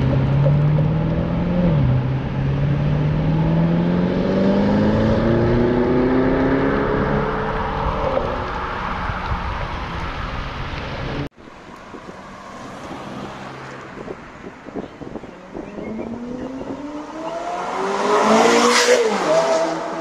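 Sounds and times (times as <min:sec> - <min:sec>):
car accelerating: 0:00.0 - 0:11.3, 0:15.1 - 0:20.0
street noise: 0:00.0 - 0:20.0.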